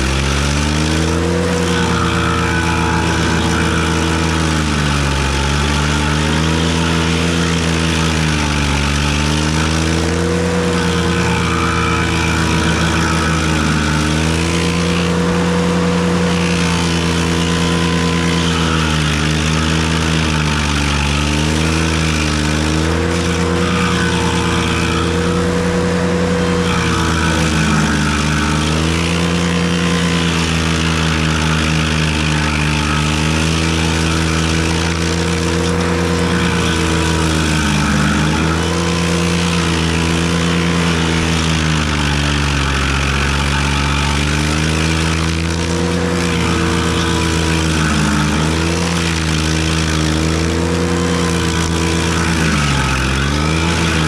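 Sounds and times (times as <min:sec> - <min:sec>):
tractor engine running stump grinder: 0:00.0 - 0:54.0.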